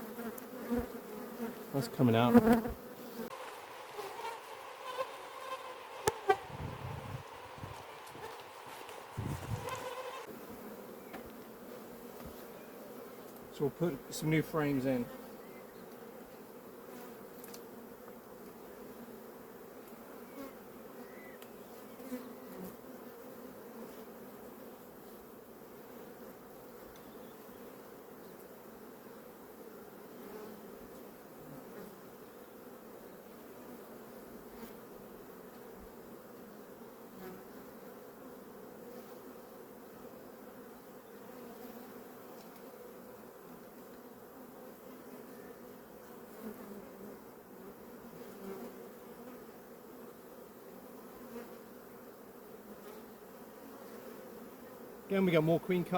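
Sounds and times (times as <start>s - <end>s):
bees buzzing: 0.0s - 55.9s.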